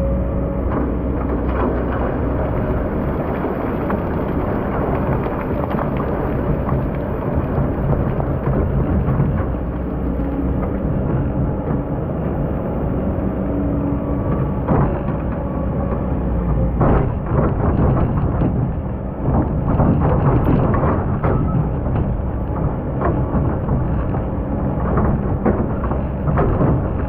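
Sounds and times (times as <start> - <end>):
excavator diesel engine: 0.0 - 27.0.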